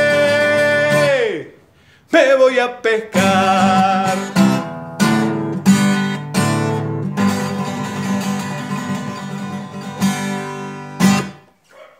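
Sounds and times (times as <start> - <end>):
acoustic guitar strumming: 0.0 - 1.5, 2.2 - 11.5.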